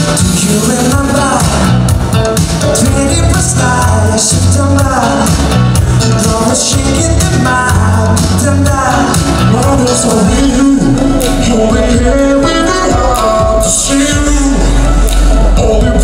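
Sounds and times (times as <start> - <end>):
man singing into a microphone: 0.0 - 2.0, 2.6 - 16.0
backing music with heavy bass: 0.0 - 16.0.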